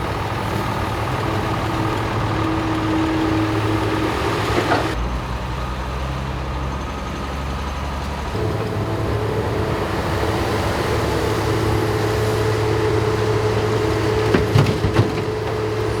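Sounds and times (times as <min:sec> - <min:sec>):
heavy equipment engine running: 0:00.0 - 0:16.0.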